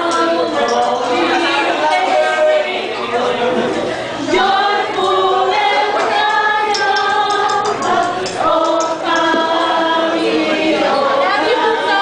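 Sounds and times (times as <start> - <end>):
women singing in chorus: 0.0 - 3.2, 4.2 - 12.0.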